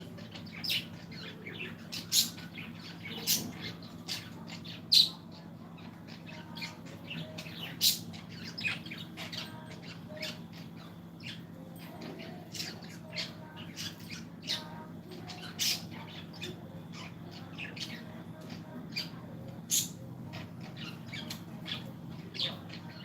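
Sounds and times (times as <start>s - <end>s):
birds chirping and squawking: 0.0s - 23.0s
steady low hum: 0.0s - 23.0s.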